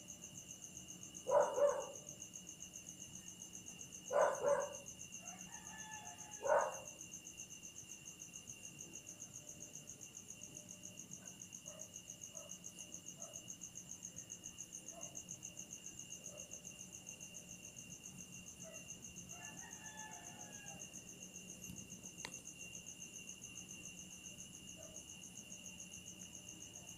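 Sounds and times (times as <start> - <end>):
louder insect call: 0.0 - 26.9
night insects trilling: 0.0 - 26.9.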